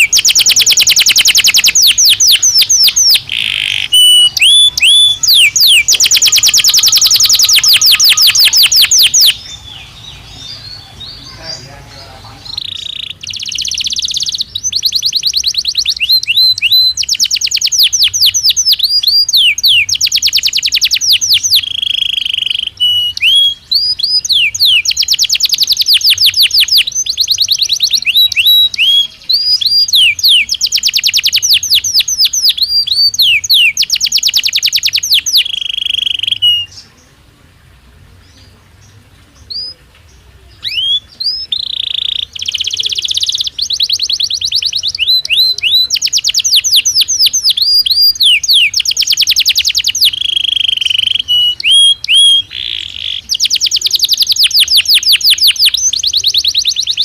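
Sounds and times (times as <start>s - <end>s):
canary singing rapid trills: 0.0s - 37.0s, 40.6s - 57.0s.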